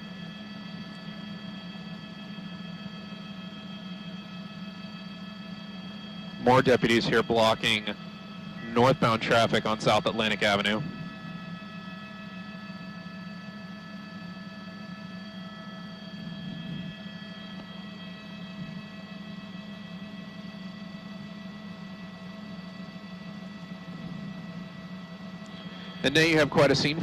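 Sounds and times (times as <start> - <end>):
helicopter cabin drone: 0.0 - 27.0.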